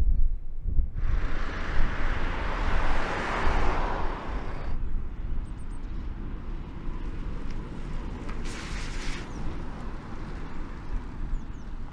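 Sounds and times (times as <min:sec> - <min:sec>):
wind rumble on microphone: 0:00.0 - 0:11.9
van driving past: 0:01.0 - 0:11.9.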